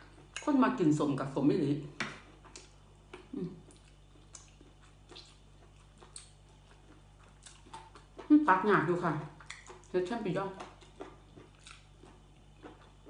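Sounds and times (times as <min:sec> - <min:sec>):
chewing and wet mouth sounds: 0:02.2 - 0:13.0.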